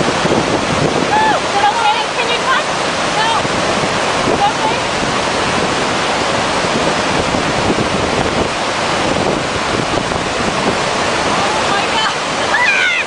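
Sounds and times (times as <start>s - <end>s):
waterfall rushing: 0.0s - 13.0s
wind noise on microphone: 0.0s - 13.0s.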